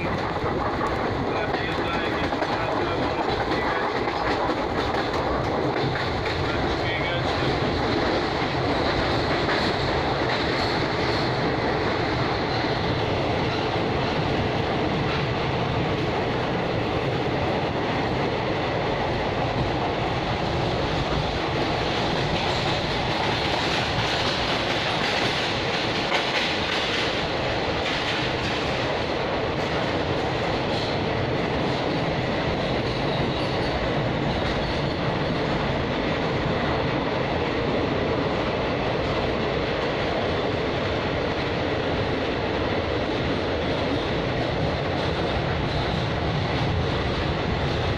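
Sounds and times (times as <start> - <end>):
train wheels on rails: 0.0 - 47.9.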